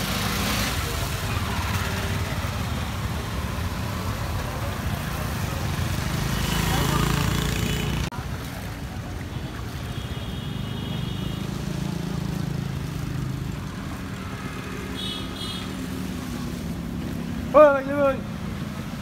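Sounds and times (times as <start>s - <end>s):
traffic engine drone: 0.0s - 19.0s.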